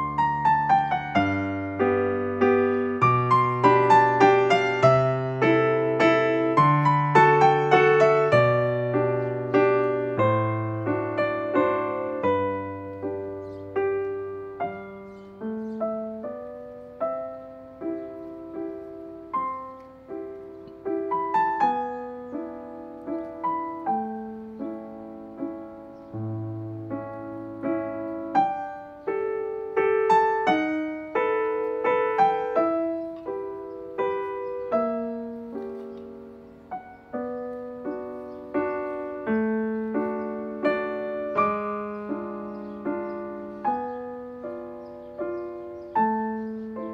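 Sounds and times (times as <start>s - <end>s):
slow piano music: 0.0s - 46.9s.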